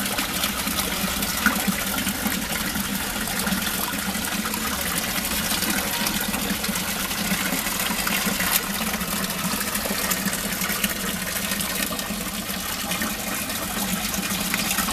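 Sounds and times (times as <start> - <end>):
running water in a tank: 0.0 - 14.9.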